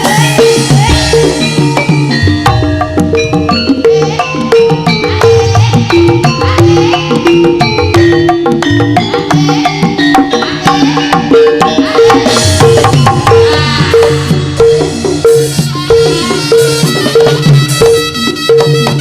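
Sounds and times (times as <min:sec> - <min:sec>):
hand drums: 0:00.0 - 0:19.0
pitched struck percussion: 0:00.0 - 0:19.0.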